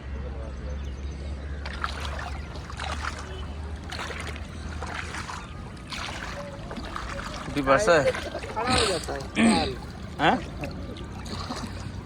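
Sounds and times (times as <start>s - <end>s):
water splashing and sloshing: 1.6s - 12.0s.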